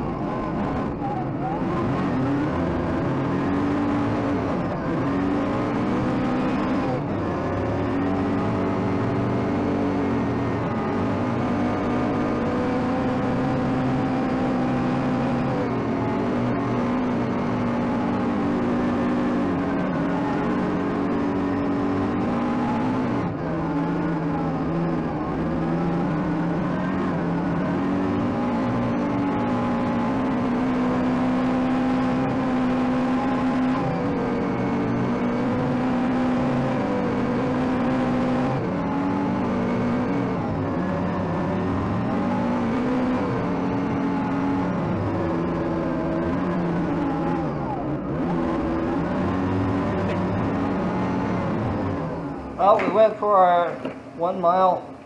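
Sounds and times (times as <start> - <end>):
tracked vehicle engine running: 0.0 - 55.0.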